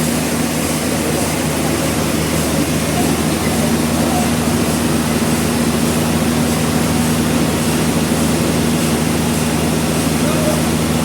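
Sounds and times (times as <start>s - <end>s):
sawmill machinery drone: 0.0s - 11.0s.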